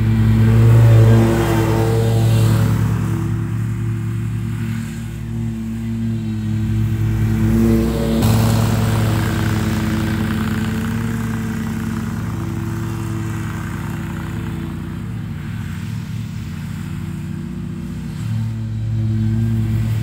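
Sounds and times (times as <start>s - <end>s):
lawn mower running: 0.0s - 20.0s.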